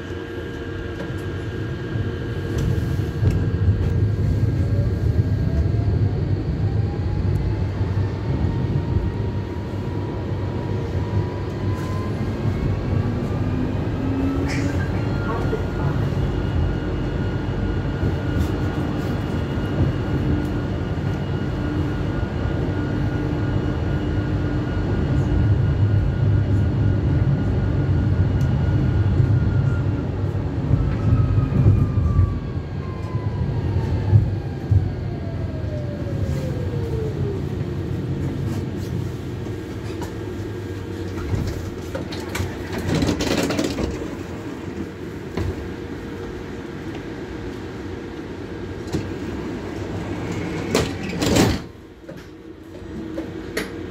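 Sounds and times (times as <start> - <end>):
tram motor whine: 0.0 - 53.9
tram wheel rumble: 0.0 - 53.9.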